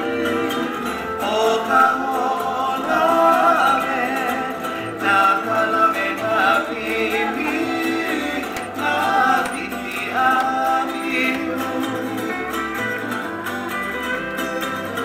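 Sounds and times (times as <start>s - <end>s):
person singing: 0.0s - 15.0s
plucked strings: 0.0s - 15.0s.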